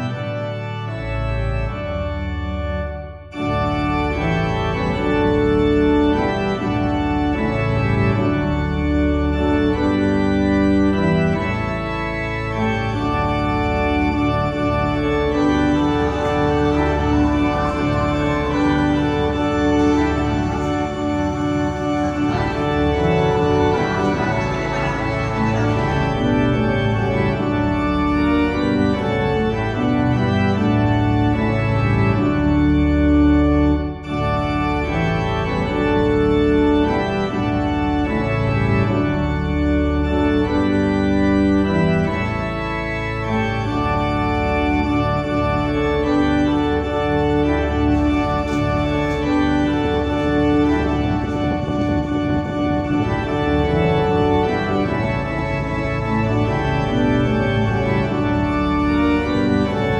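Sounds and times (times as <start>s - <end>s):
organ playing held chords: 0.0s - 59.9s.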